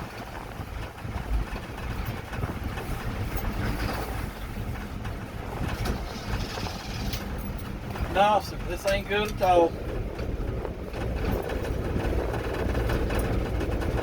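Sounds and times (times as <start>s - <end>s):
vehicle engine rumble: 0.0s - 14.0s
wind noise on microphone: 0.0s - 14.0s.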